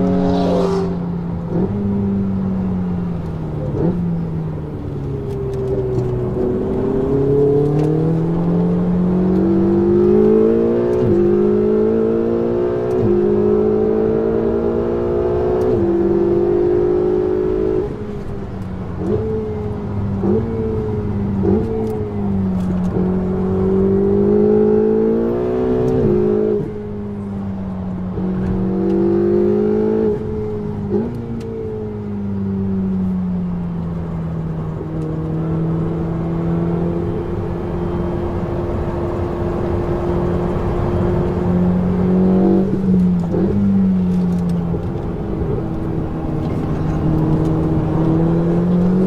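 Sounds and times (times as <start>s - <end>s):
sports car engine revving: 0.0s - 49.0s.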